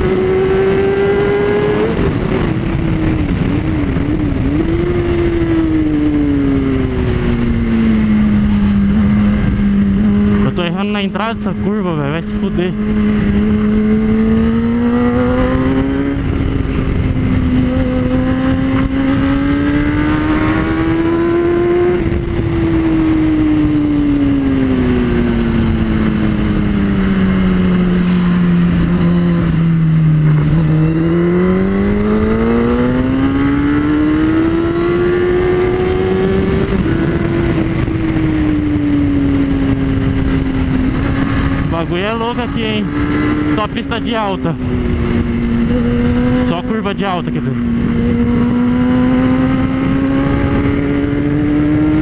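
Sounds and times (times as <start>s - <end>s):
motorcycle engine revving: 0.0s - 52.0s
wind rush: 0.0s - 52.0s.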